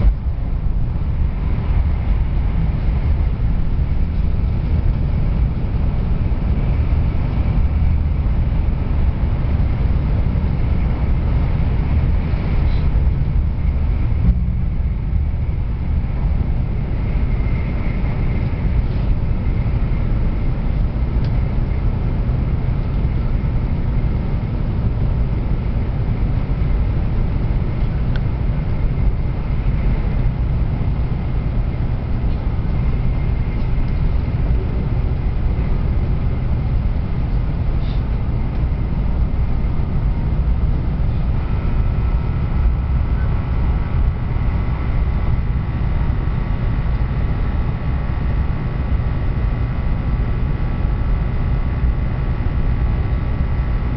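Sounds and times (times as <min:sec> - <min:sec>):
faint whine: 0:00.0 - 0:53.9
train rumble: 0:00.0 - 0:53.9.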